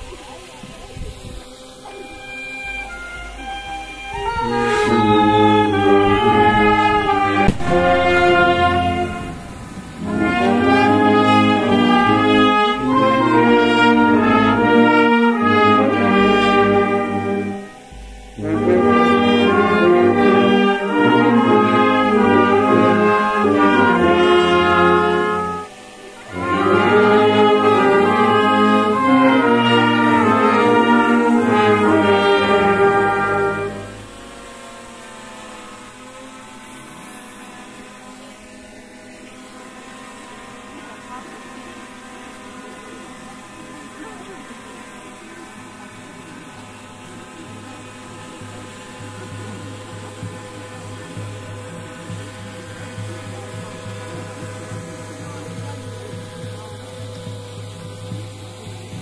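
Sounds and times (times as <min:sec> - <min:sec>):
brass band playing slow melody: 0:00.0 - 0:59.0
faint steady hum: 0:00.0 - 0:59.0.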